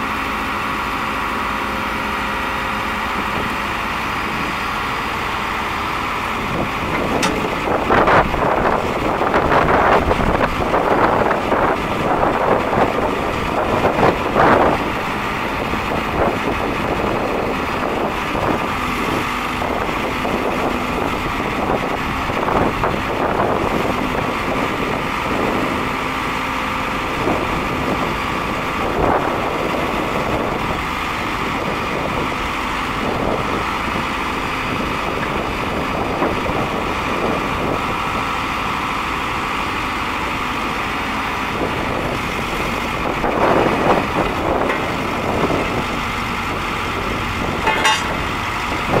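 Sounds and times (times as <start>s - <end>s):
diesel engine running: 0.0s - 49.0s
hydraulic boom working: 0.0s - 49.0s.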